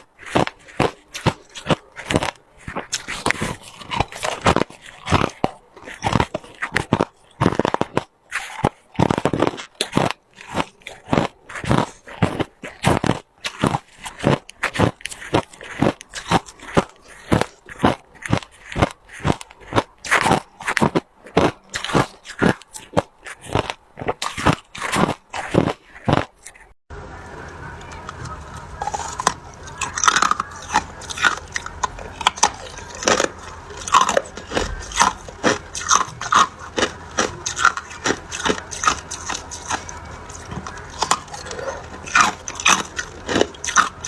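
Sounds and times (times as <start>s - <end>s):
ice being chewed: 0.0s - 26.8s, 27.4s - 44.0s.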